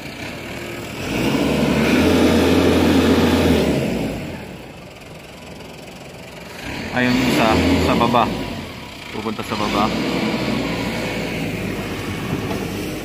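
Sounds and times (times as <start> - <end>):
snowplow truck engine passing: 0.0 - 13.0.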